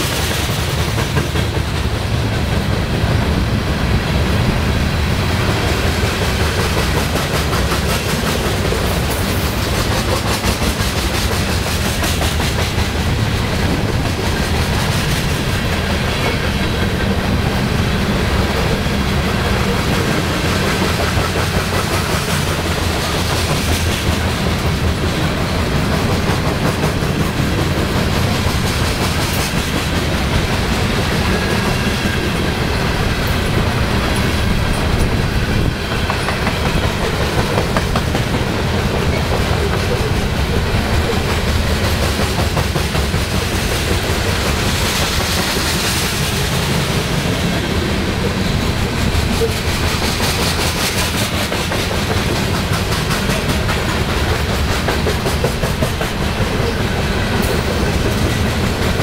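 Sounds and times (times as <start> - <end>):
steel wheels clattering on rails: 0.0 - 59.0
train rumbling past: 0.0 - 59.0.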